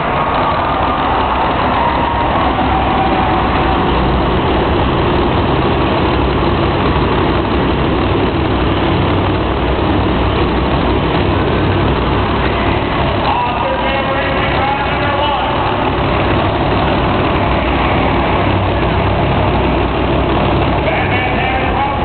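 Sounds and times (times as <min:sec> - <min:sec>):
monster truck engines running: 0:00.0 - 0:22.0.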